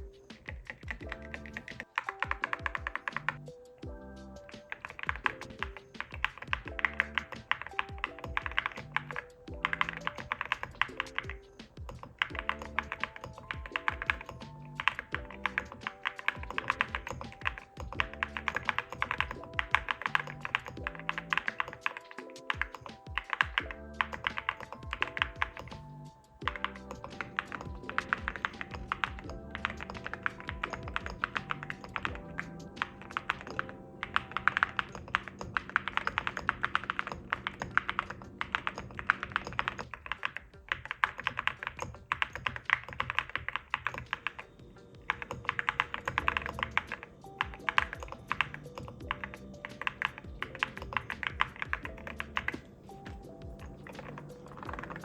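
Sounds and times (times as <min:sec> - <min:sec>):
background music: 0:00.0 - 0:55.0
fast keyboard typing: 0:00.0 - 0:55.0.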